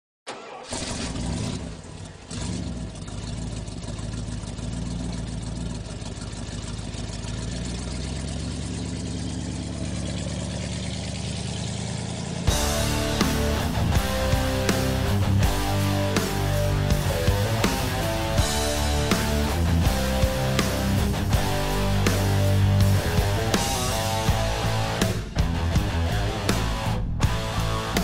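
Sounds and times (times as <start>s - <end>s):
vehicle engine idling: 0.8s - 28.0s.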